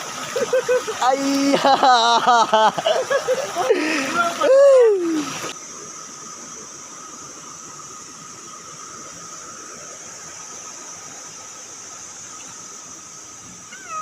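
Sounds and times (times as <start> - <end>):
running water hiss: 0.0 - 14.0.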